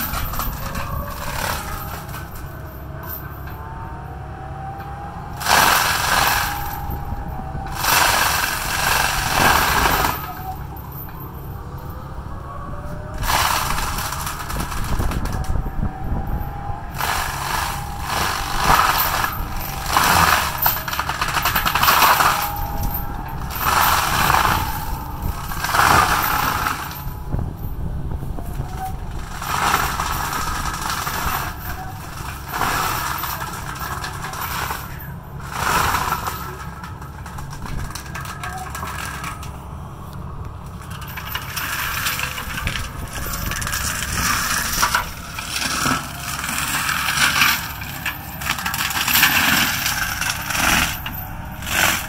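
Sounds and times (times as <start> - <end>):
excavator diesel engine under load: 0.0 - 52.0.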